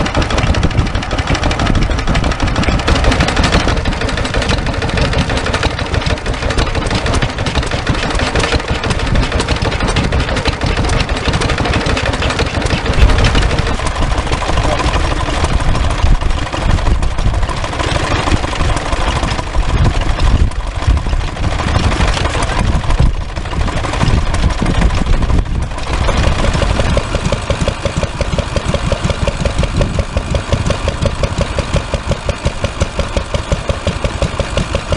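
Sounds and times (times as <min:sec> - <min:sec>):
stationary engines running: 0:00.0 - 0:34.9.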